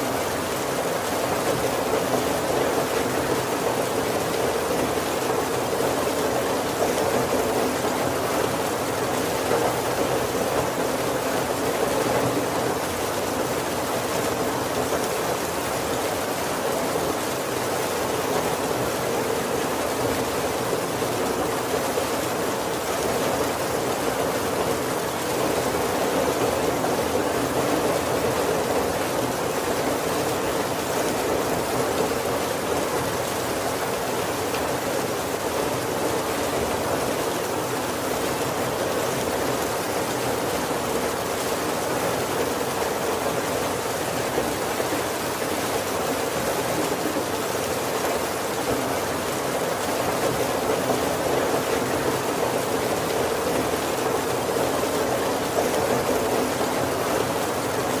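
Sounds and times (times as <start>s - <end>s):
heavy rain on a wooden roof: 0.0s - 58.0s.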